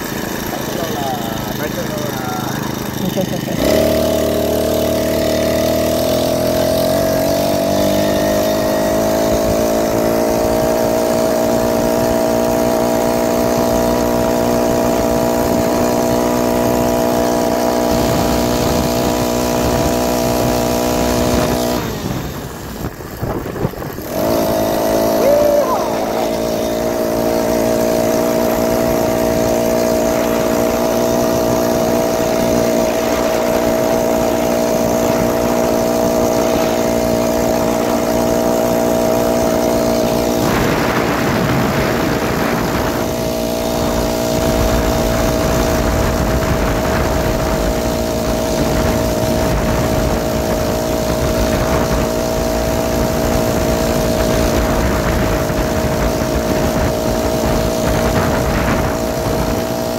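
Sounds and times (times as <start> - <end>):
small engine running steadily: 0.0 - 59.9.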